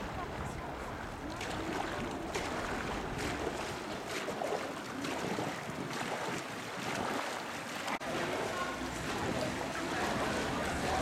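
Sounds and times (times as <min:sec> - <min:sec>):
canoe paddles splashing: 0:00.0 - 0:11.0.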